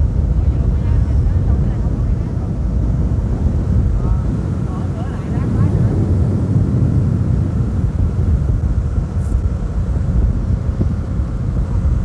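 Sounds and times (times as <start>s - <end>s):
boat engine running: 0.0s - 12.0s
wind rumbling on microphone: 0.0s - 12.0s.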